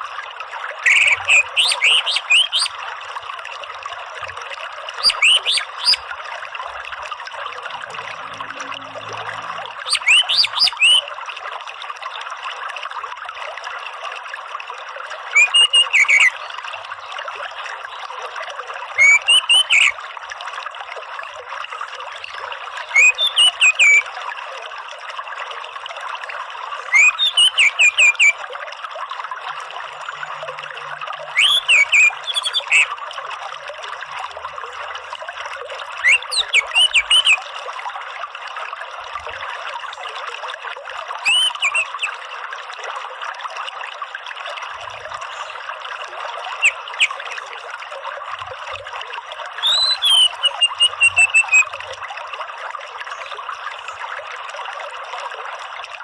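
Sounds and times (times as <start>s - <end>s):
trickle of running water: 0.0s - 56.0s.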